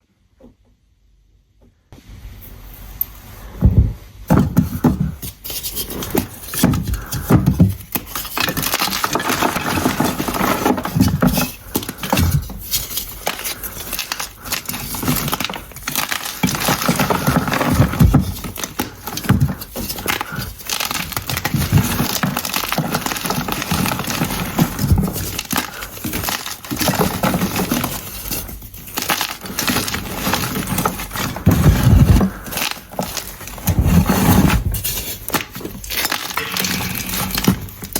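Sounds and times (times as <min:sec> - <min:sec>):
chalk crackling and crunching: 0:04.6 - 0:37.9.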